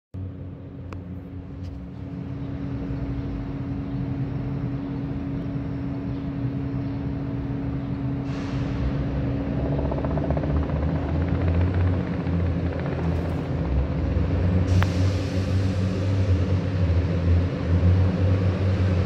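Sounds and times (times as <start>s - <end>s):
bus diesel engine rumbling: 0.2s - 19.0s.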